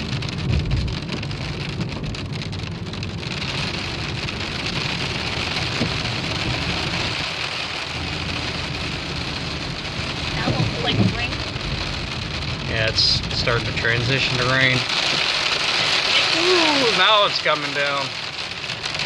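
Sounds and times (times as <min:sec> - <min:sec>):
hail and rain on car roof: 0:00.0 - 0:19.0
moving car rumble: 0:00.0 - 0:19.0.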